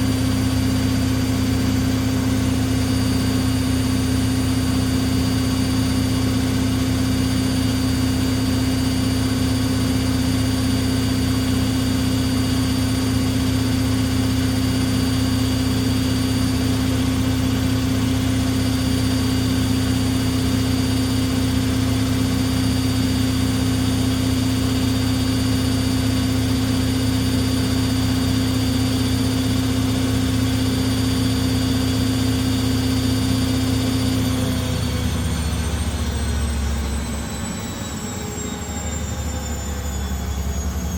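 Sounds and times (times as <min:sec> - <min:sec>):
washing machine spinning: 0:00.0 - 0:40.9.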